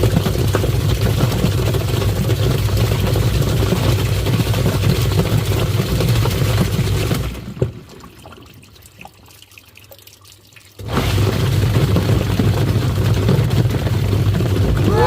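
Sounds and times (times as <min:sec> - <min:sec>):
water dripping and sloshing: 0:00.0 - 0:15.0.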